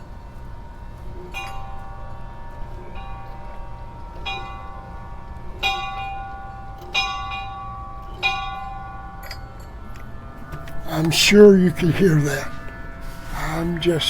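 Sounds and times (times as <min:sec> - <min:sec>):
large church bell ringing: 0:00.0 - 0:14.0.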